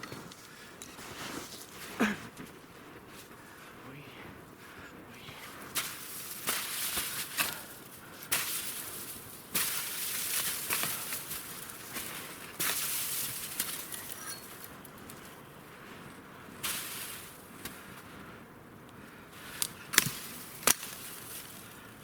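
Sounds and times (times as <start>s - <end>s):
crunching and rustling in snow: 0.0s - 4.3s, 5.0s - 18.4s, 19.2s - 22.0s.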